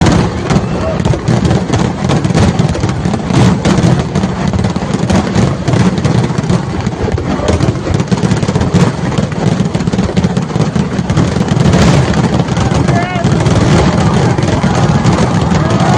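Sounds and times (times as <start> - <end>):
fireworks bangs and crackles: 0.0 - 15.9.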